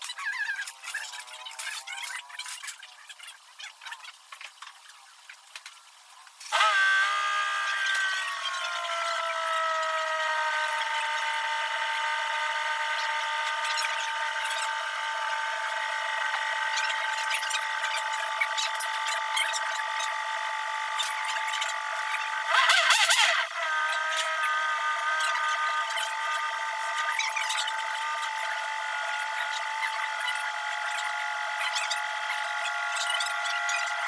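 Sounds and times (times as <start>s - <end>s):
small machine whining: 0.0s - 34.0s.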